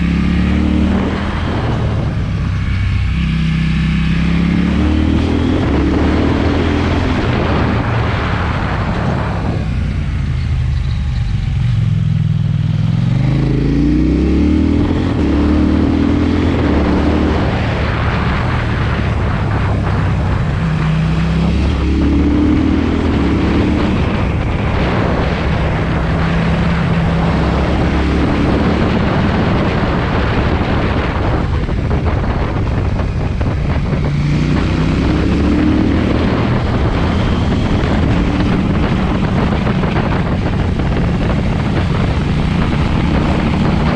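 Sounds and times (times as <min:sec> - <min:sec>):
motorcycle engine accelerating: 0:00.0 - 0:43.9
wind noise: 0:00.0 - 0:43.9.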